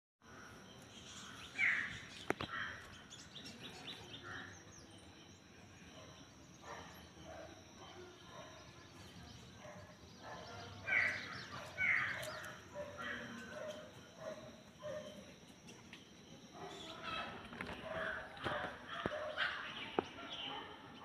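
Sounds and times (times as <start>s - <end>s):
birds chirping: 0.2s - 21.0s
steady high-pitched hiss: 0.3s - 21.0s.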